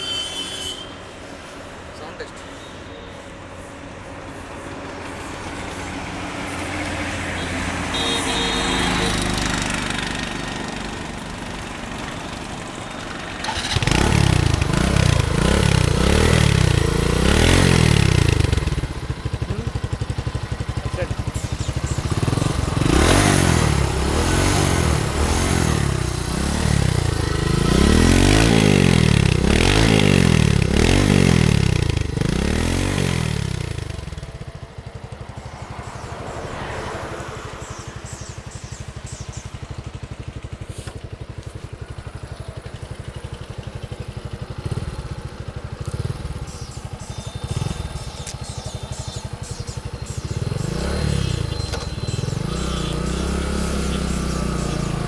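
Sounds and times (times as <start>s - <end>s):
motorcycle engine revving: 4.4s - 55.0s.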